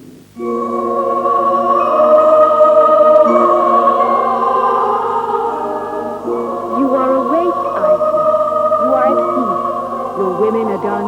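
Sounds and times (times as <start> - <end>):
choir singing held chord: 0.4 - 11.0.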